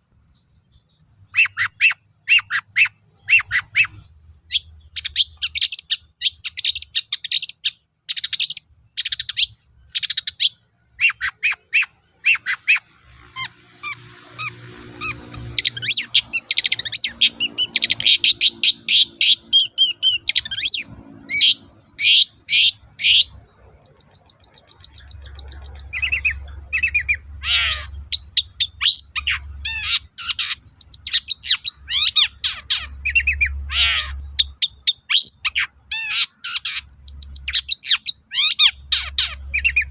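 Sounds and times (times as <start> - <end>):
bird singing scratchy notes: 0.0 - 39.9.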